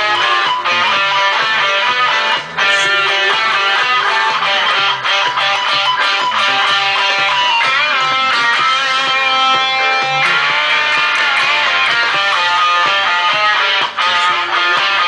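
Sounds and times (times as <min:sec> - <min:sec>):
band backing with bass line: 0:00.0 - 0:15.0
electric guitar playing rock and roll: 0:00.0 - 0:15.0.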